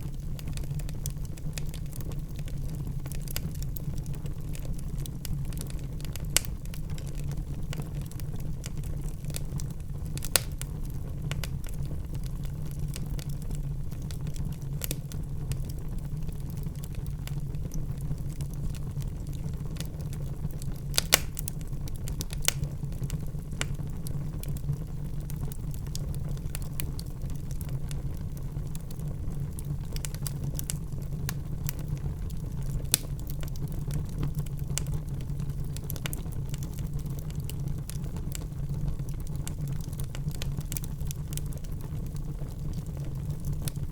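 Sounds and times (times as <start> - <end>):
fire pops: 0.0 - 43.9
wood fire crackling: 0.0 - 43.9.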